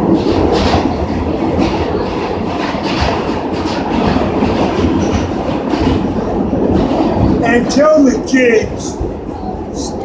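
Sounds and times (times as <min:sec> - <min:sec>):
subway train rumbling on track: 0:00.0 - 0:10.0.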